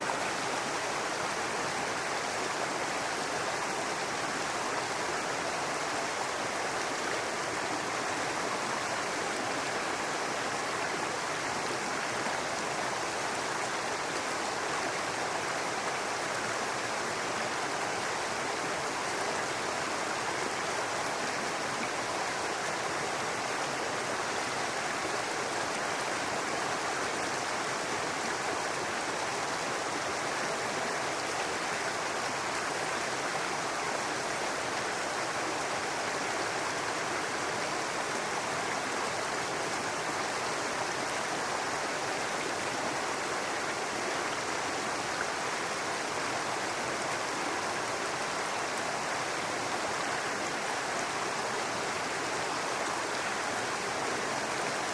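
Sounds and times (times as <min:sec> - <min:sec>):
brook babbling: 0:00.0 - 0:54.9.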